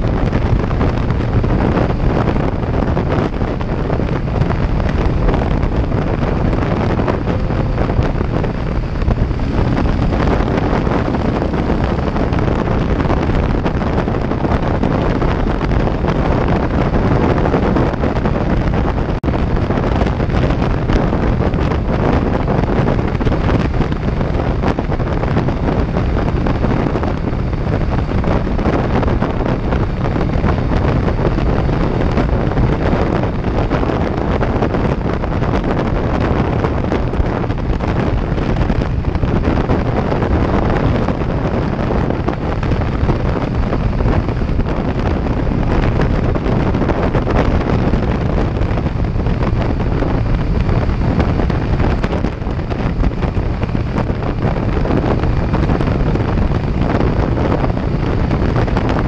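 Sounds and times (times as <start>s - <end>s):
heavy wind noise on microphone: 0.0s - 59.0s
motorcycle engine: 0.0s - 59.0s.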